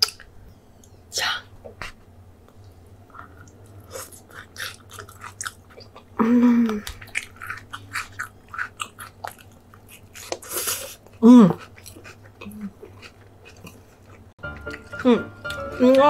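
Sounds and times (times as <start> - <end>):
chewing with mouth clicks: 2.6 - 16.0.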